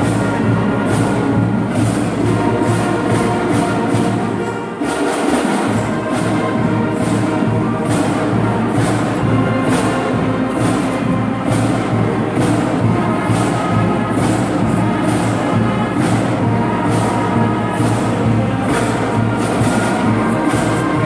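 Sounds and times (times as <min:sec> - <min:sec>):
brass and woodwinds sustained notes: 0:00.0 - 0:21.0
bright percussion accent: 0:00.0 - 0:21.0
drumline: 0:00.0 - 0:21.0.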